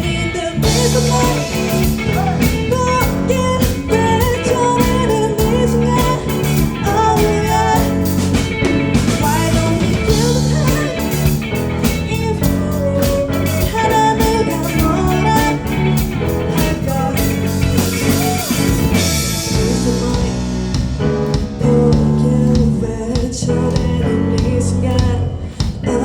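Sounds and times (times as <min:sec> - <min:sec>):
bass guitar: 0:00.0 - 0:26.0
drum kit: 0:00.0 - 0:26.0
electric guitar: 0:00.0 - 0:26.0.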